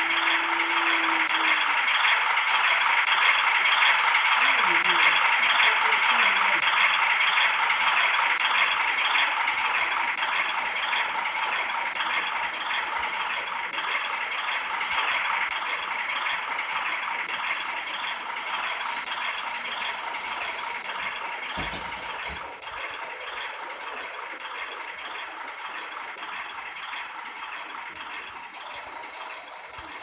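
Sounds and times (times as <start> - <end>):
freight train wheels clattering: 0.0 - 24.5.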